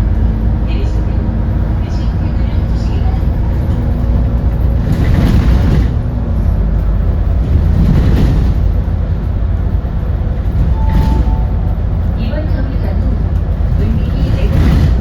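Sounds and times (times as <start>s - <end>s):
bus engine low rumble: 0.0s - 15.0s.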